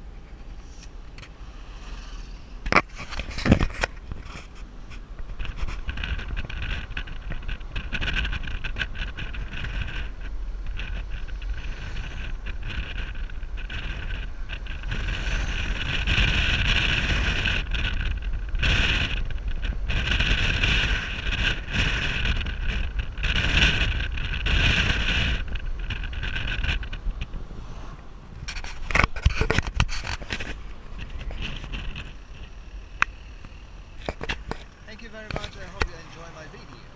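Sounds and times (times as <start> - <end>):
car road and engine rumble: 0.0 - 36.9
wind buffeting microphone: 2.6 - 36.9.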